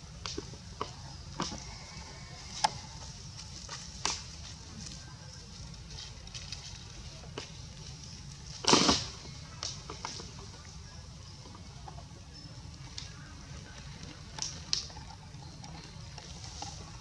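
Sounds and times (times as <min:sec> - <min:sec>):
dry leaves crackling and rustling: 0:00.2 - 0:17.0.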